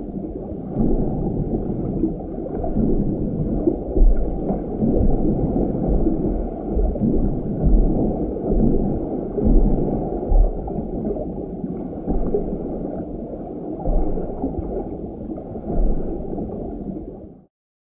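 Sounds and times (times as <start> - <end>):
underwater gurgling and bubbling: 0.0 - 17.5
dull low thumps: 0.7 - 13.2, 13.8 - 16.6.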